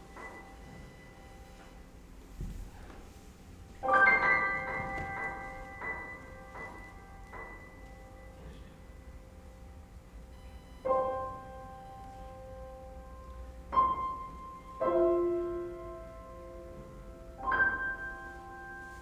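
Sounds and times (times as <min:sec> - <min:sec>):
piano playing slow chords: 0:00.0 - 0:01.9, 0:03.8 - 0:19.0.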